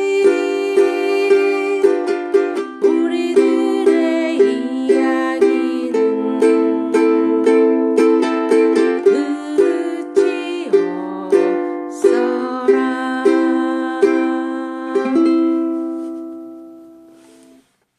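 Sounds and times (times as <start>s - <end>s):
ukulele strummed: 0.0s - 17.6s.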